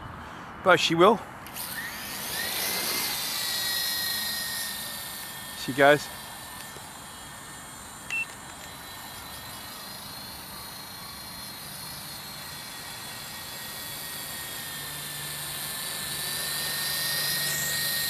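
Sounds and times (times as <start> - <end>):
helicopter motor and rotor whine: 0.7 - 18.0.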